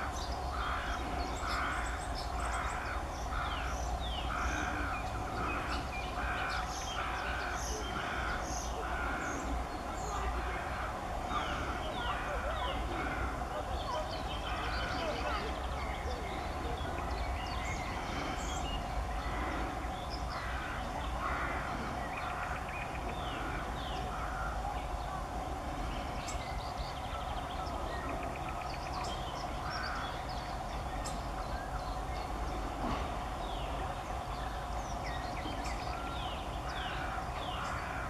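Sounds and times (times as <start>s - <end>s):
steady low hum: 0.0s - 38.0s
wild birds calling: 0.0s - 38.0s.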